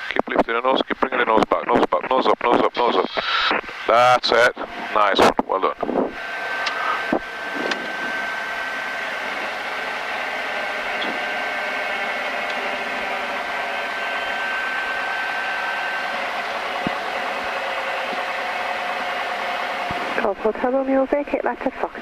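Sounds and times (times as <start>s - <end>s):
aircraft engine and airflow: 3.0s - 22.0s.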